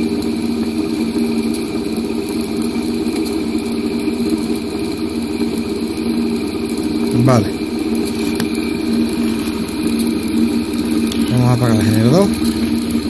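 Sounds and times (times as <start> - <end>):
motor humming with high whine: 0.0 - 13.0.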